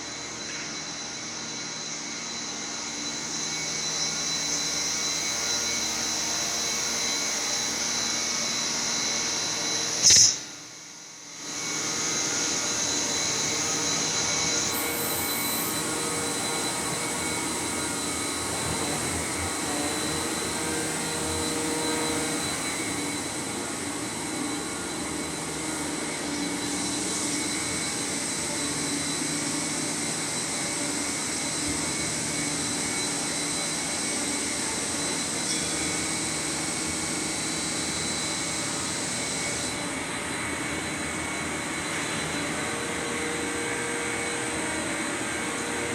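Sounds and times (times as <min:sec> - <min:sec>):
industrial machinery running: 0:00.0 - 0:45.9.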